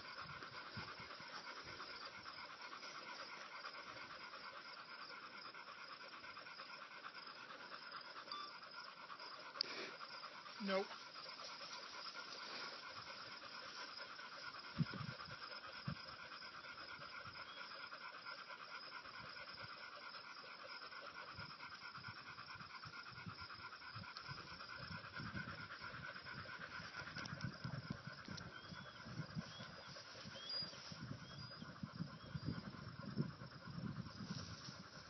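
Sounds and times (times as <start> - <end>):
dog panting: 0.0 - 35.0.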